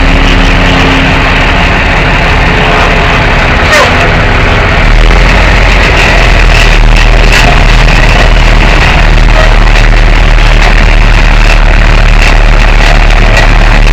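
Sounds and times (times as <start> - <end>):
truck engine rumble: 0.0 - 13.9.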